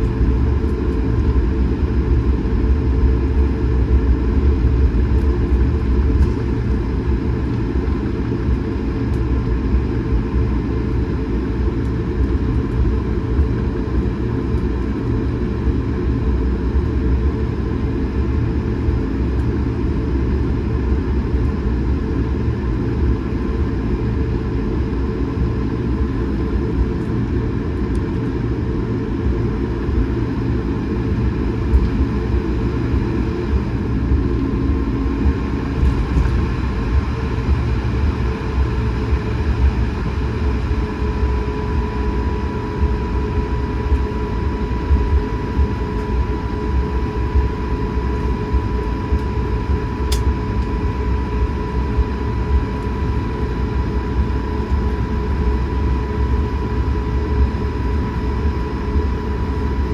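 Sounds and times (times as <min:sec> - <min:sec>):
aircraft cabin rumble: 0:00.0 - 0:59.9
jet engine whine: 0:00.0 - 0:59.9.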